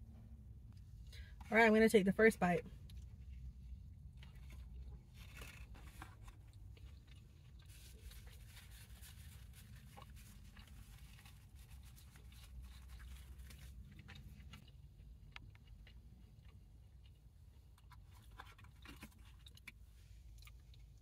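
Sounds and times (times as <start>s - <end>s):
person chewing with crunching: 2.8s - 21.0s.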